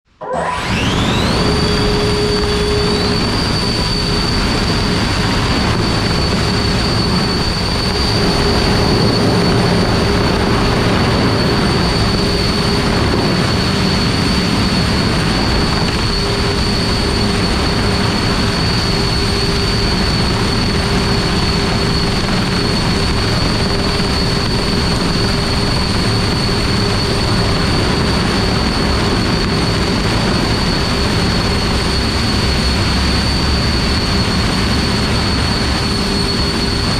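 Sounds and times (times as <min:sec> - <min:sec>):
electric fans rushing air: 0:00.1 - 0:36.9.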